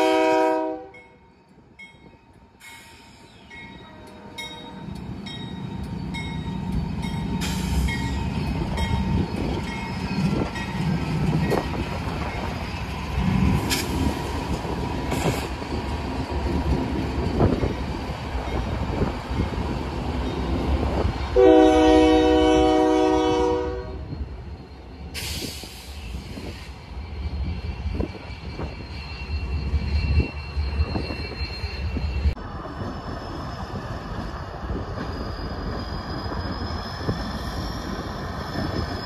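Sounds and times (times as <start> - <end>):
diesel locomotives rumbling: 0.0 - 39.0.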